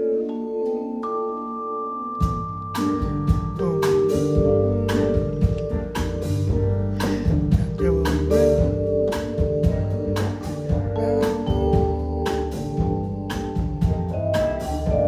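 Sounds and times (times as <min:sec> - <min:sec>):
jazz band playing: 0:02.2 - 0:15.0.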